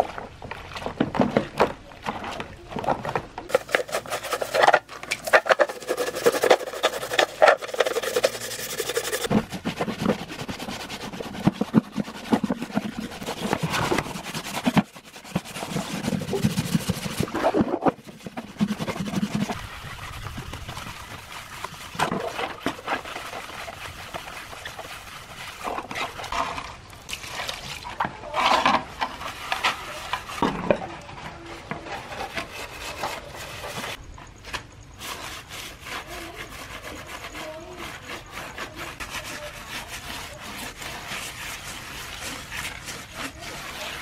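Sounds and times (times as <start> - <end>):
brush scrubbing wet metal: 3.5 - 34.0, 35.0 - 44.0.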